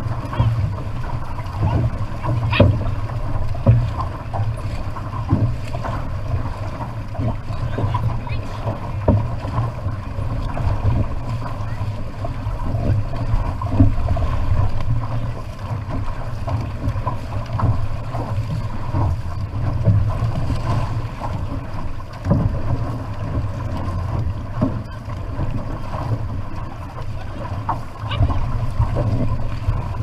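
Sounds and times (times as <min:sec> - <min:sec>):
paddle stroke splashes: 0:00.0 - 0:30.0
water rushing along hull: 0:00.0 - 0:30.0.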